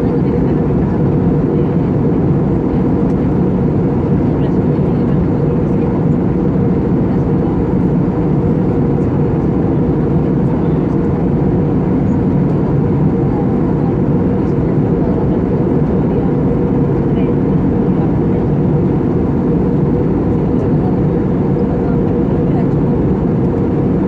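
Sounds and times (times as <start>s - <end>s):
jet engine and airflow drone: 0.0s - 24.0s.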